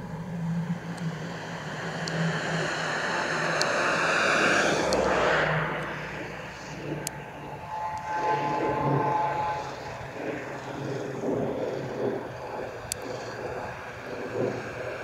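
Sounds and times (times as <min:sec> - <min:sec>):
jet airliner passing overhead: 0:00.0 - 0:15.0.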